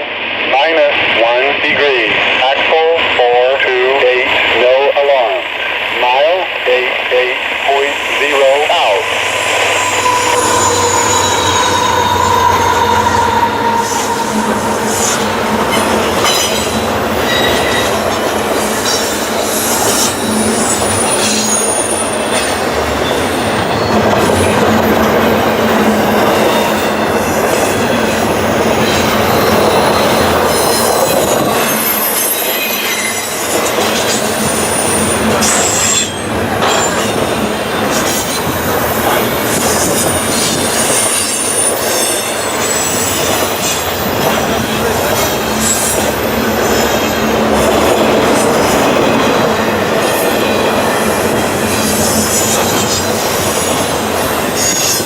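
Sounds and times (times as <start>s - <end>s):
train wheel squeal: 7.8s - 55.0s
freight train wheels clattering: 9.0s - 55.0s.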